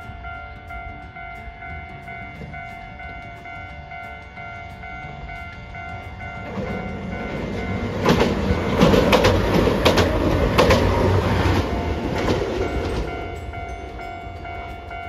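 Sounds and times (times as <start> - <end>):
tram passing: 0.0 - 15.0
wheels clacking over rail joints: 0.0 - 15.0.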